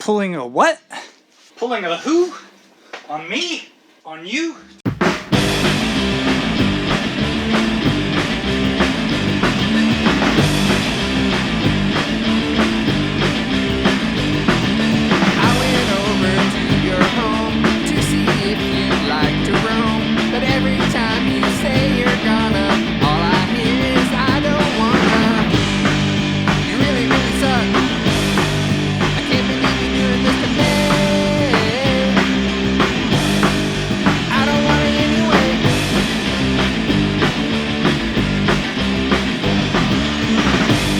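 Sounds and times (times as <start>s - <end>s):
rock band playing: 4.9s - 40.9s
bending lead guitar line: 5.3s - 40.9s.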